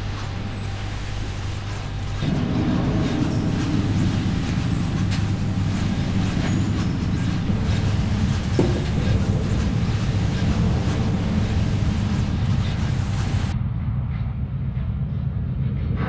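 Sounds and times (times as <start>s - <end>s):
dense low rumble: 0.0s - 16.0s.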